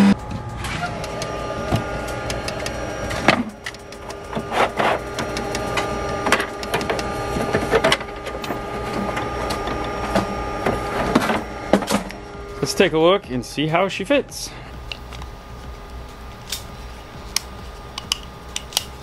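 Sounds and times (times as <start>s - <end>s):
level machine tones: 0.0s - 18.5s
steady machine hum: 0.0s - 19.0s.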